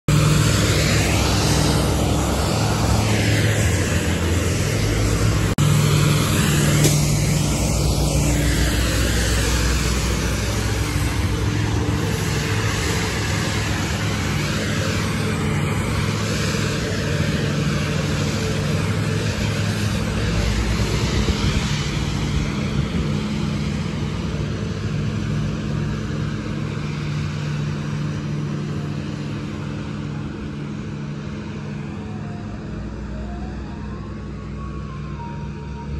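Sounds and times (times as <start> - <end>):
street sweeper truck engine: 0.1 - 35.9.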